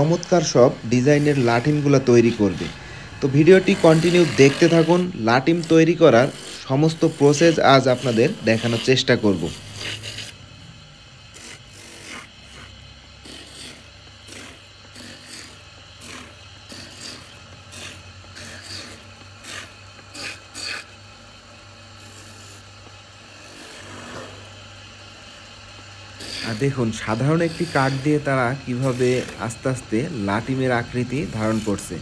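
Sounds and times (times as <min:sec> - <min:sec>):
chisel scraping spinning wood: 0:00.0 - 0:32.0
wood lathe humming: 0:00.0 - 0:32.0.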